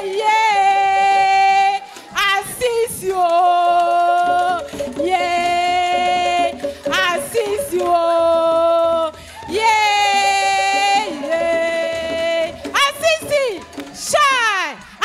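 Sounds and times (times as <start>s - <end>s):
students singing a chant: 0.0s - 12.7s.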